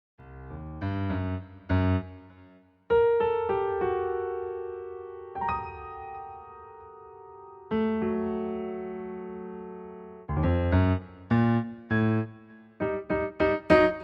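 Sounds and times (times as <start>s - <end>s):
piano chords: 0.2s - 14.0s.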